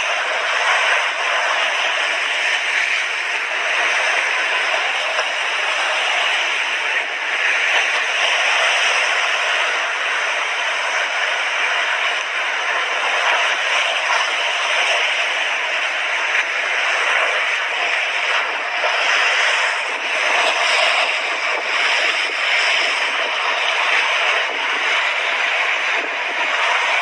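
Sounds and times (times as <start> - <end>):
sea waves breaking on beach: 0.0 - 27.0.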